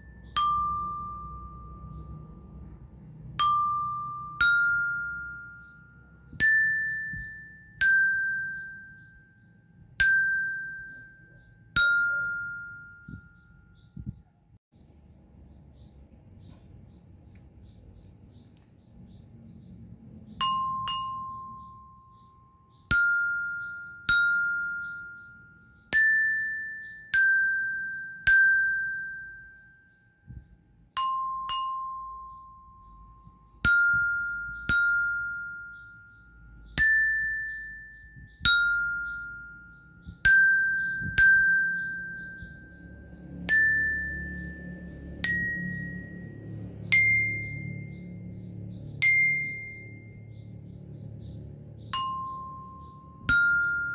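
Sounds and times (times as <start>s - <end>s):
glockenspiel notes: 0.0s - 14.3s, 20.1s - 53.9s.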